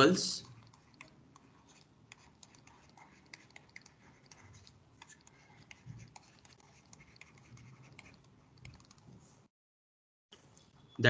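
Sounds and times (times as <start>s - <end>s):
stylus writing on a tablet: 0.0s - 9.3s.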